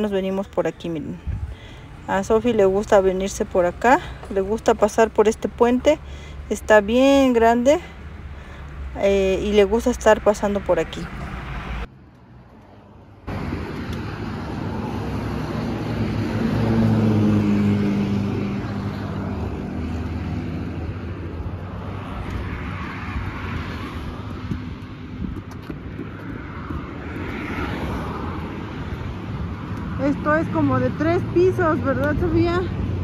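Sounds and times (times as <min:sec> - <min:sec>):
road traffic passing: 0:00.0 - 0:33.0
vehicle engine passing: 0:01.4 - 0:33.0.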